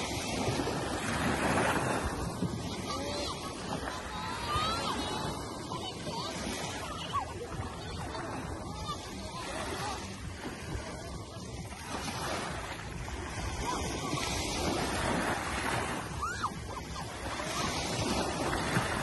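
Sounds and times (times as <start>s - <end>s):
waves breaking on beach: 0.0s - 19.0s.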